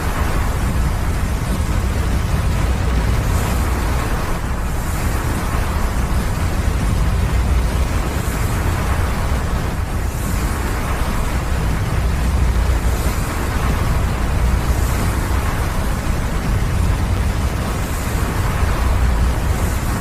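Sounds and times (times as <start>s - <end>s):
avalanche rumbling: 0.0s - 20.0s.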